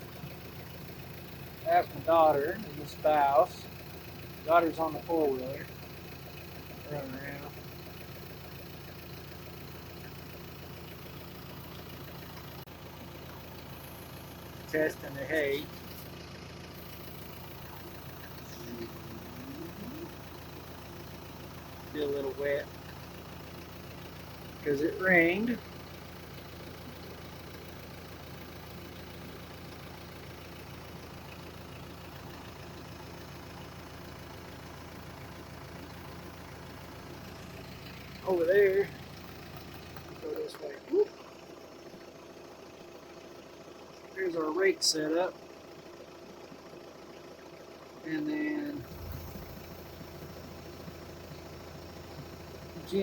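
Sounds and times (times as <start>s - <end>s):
vehicle engine running steadily: 0.0s - 53.0s.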